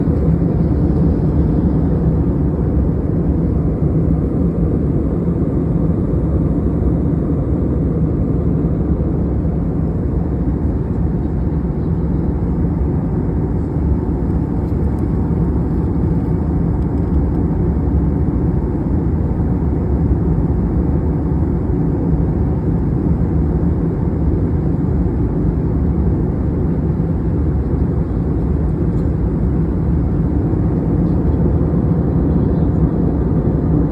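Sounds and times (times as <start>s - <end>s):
airliner cabin drone: 0.0s - 33.9s.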